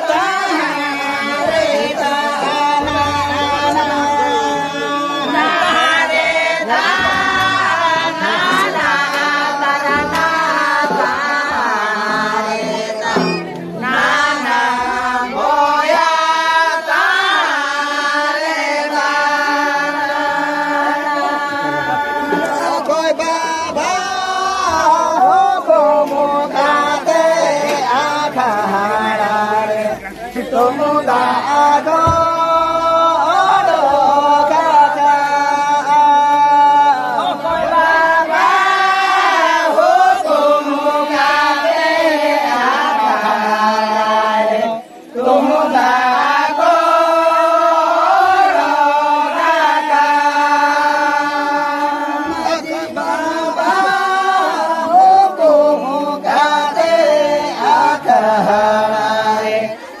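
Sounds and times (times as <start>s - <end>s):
men singing together: 0.0s - 60.0s.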